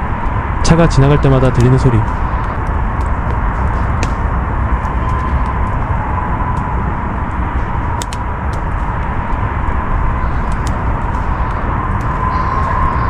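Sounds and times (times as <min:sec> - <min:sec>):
steady whine: 0:00.0 - 0:13.0
traffic rumble: 0:00.0 - 0:13.0.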